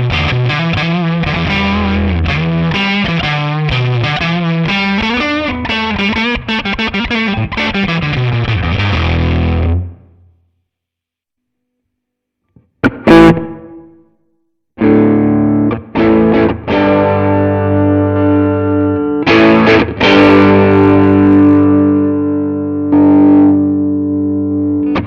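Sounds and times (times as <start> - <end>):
distorted electric guitar chords: 0.0 - 10.1, 12.6 - 14.2, 14.8 - 25.0.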